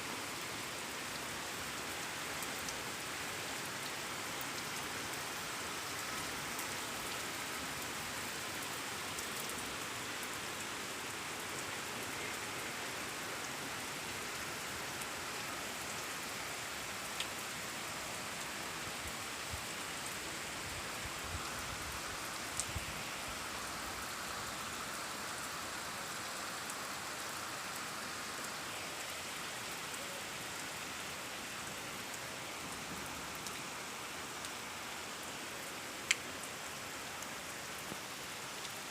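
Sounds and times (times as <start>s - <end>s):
rain pattering: 0.7s - 38.9s.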